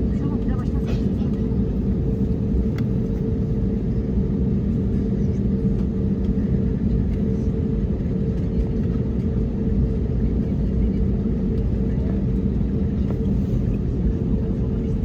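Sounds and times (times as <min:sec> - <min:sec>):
aircraft cabin rumble and hum: 0:00.0 - 0:15.0.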